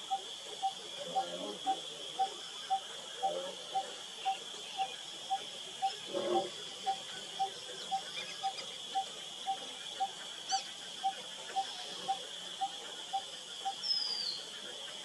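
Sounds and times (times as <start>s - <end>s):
high insect drone: 0.0s - 15.0s
repeated animal call: 0.0s - 15.0s.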